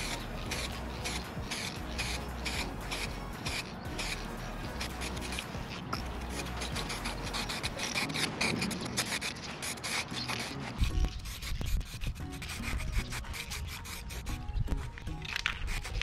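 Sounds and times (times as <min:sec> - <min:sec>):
aerosol spray can hissing: 0:00.0 - 0:14.3.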